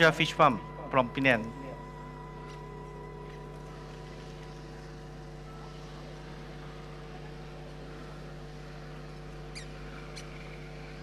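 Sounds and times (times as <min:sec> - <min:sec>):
steady tonal hum: 0:00.0 - 0:11.0.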